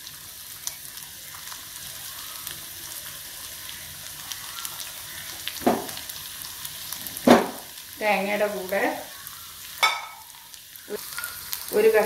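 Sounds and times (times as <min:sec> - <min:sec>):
coconut sizzling in oil: 0:00.0 - 0:12.0.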